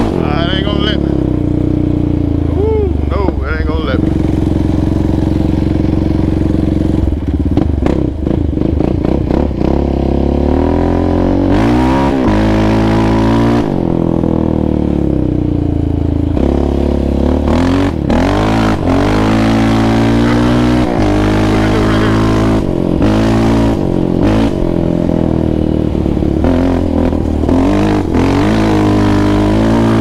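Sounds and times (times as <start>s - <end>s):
atv engine revving: 0.0s - 30.0s.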